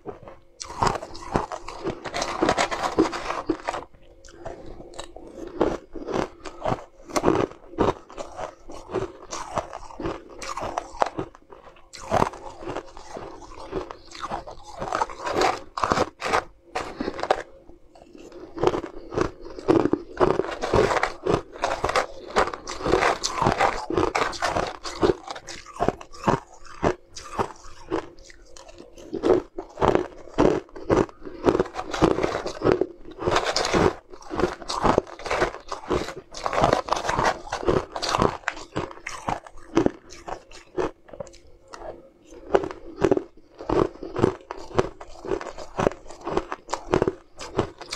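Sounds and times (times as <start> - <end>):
chewing crunchy shaved ice: 0.0 - 47.9.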